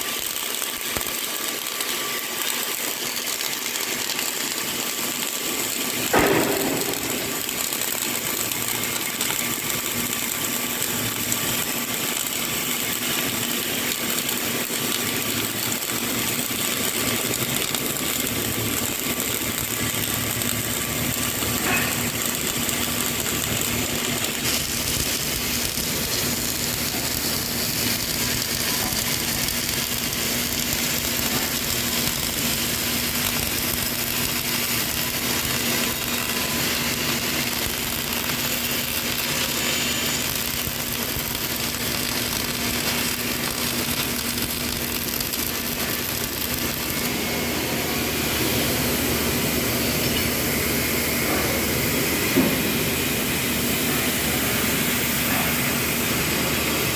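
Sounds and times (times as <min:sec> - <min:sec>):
welding arc crackling: 0:00.0 - 0:56.9.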